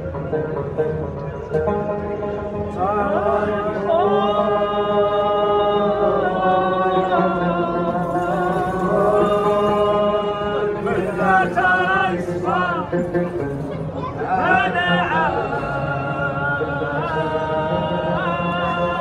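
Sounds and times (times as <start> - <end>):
men chanting: 2.7 - 13.2, 14.3 - 19.0.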